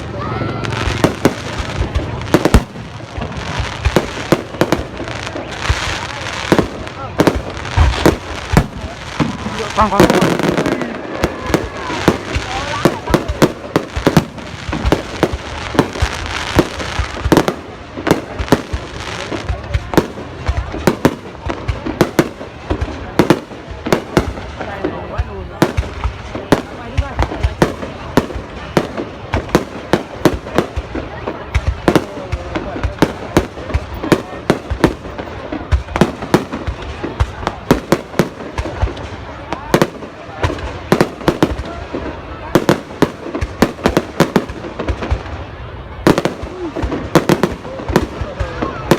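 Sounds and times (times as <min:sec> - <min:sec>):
fireworks bangs: 0:00.0 - 0:48.9
fireworks crackle: 0:00.0 - 0:48.9.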